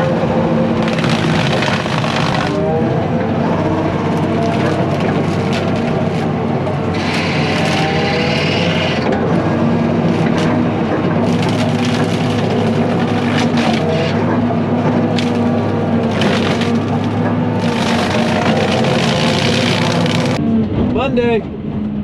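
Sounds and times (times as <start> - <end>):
brush mower cutting: 0.0 - 20.4
wood cracking and splintering: 0.0 - 20.4
diesel engine running under load: 0.0 - 22.0.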